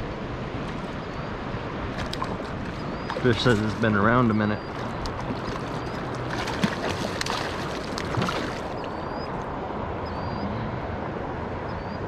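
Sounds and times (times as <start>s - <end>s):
river flowing: 0.0s - 11.6s.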